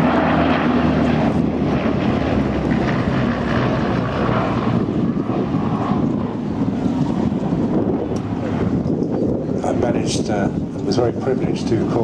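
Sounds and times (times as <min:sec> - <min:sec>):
propeller engines droning: 0:00.0 - 0:12.0.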